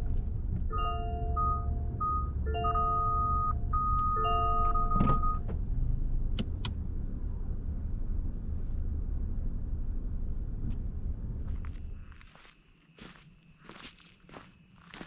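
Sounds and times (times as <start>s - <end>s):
car interior rumble: 0.0s - 12.2s.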